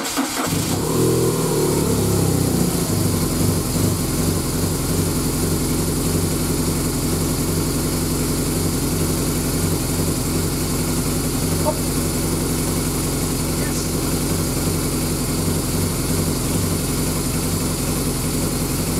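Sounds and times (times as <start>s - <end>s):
motorcycle engine idling: 0.4s - 18.9s.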